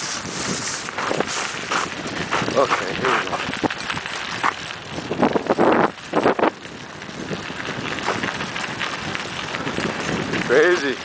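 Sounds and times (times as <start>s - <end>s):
wheels rolling on pavement: 0.0s - 11.0s
wind buffeting microphone: 0.0s - 11.0s.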